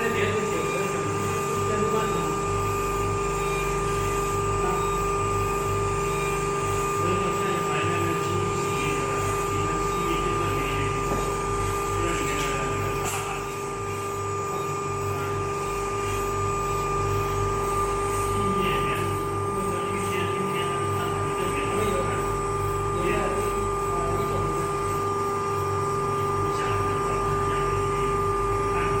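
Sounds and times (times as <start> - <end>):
grinding machine spindle whine: 0.0 - 29.0
pulsing low hum: 0.0 - 29.0.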